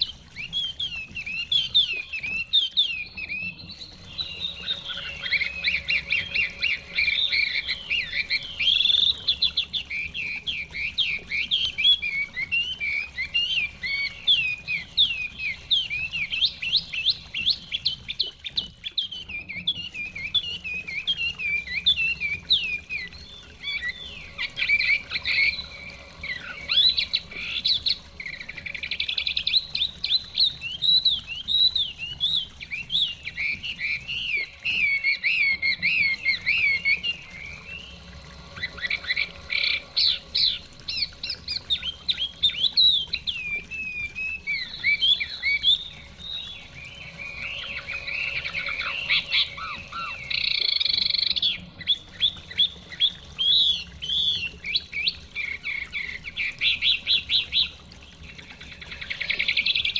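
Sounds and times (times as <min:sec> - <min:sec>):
bird singing rapid whistled notes: 0:00.0 - 0:55.2.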